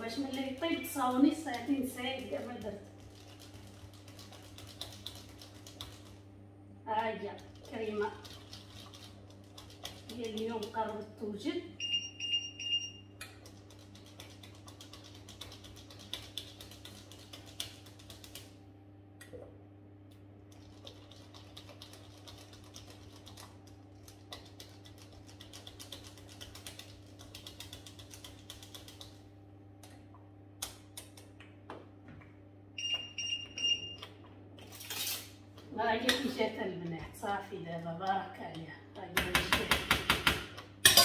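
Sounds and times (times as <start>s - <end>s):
low steady hum: 0.0s - 39.8s.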